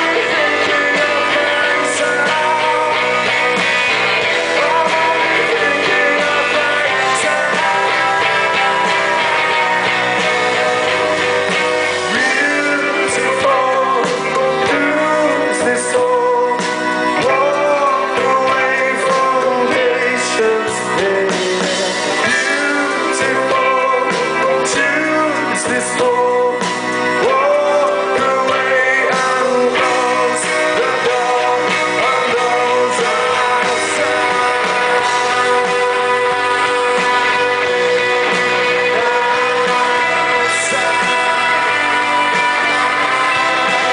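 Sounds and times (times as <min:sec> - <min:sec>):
person singing: 0:00.0 - 0:43.9
rock band playing live: 0:00.0 - 0:43.9.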